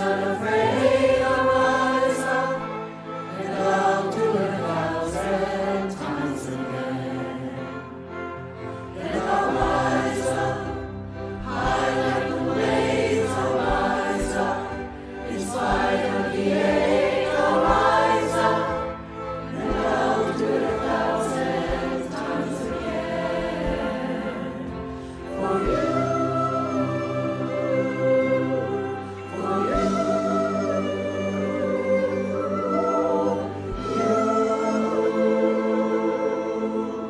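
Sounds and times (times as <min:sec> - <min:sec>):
choir singing: 0:00.0 - 0:37.0
low accompaniment: 0:00.0 - 0:37.0.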